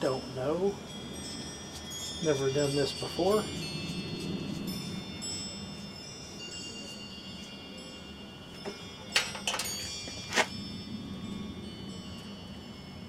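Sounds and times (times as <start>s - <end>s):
wind chimes ringing: 0.0s - 13.0s.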